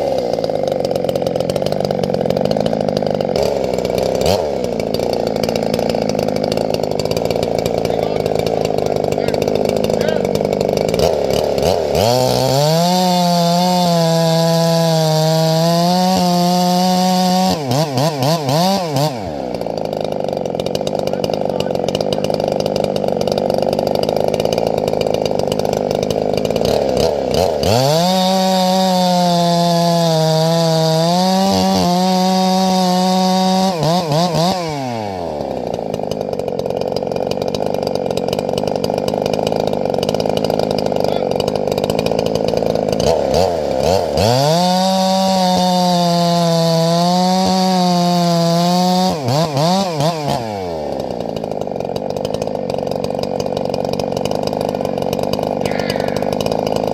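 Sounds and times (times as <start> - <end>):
chainsaw cutting firewood: 0.0 - 56.9
second chainsaw running: 0.0 - 56.9.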